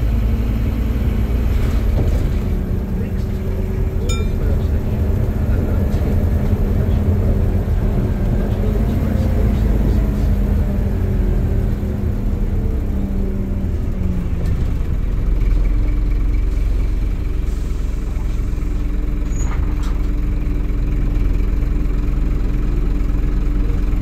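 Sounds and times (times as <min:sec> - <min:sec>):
bus engine slowing and idling: 0:00.0 - 0:24.0.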